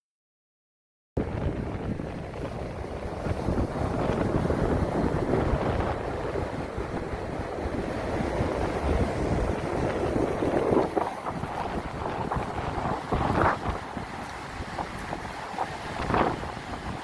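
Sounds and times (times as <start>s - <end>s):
sea surf rushing on beach: 1.2s - 17.0s
wind buffeting microphone: 1.2s - 17.0s.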